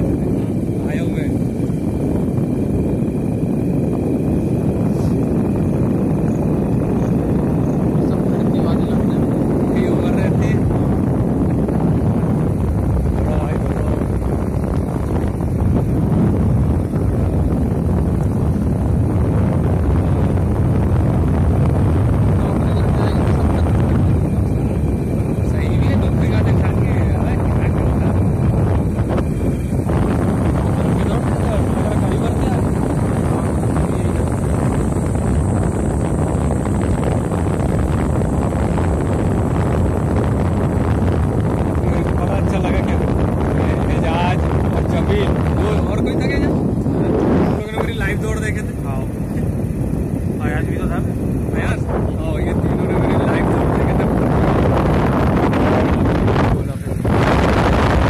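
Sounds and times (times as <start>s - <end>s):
vehicle engine running: 0.0s - 58.0s
wind buffeting microphone: 0.0s - 58.0s.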